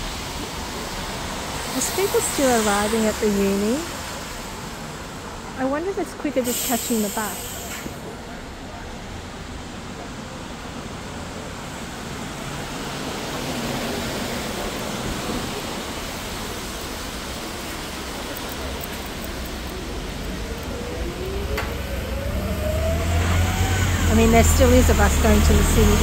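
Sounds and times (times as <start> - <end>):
passing vehicle whine: 0.0 - 7.2, 7.9 - 26.0
traffic hiss on wet road: 0.0 - 26.0.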